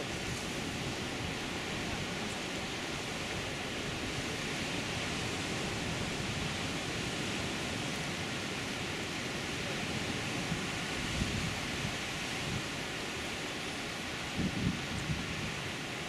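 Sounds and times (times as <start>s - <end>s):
sea surf on rocky shore: 0.0s - 16.0s.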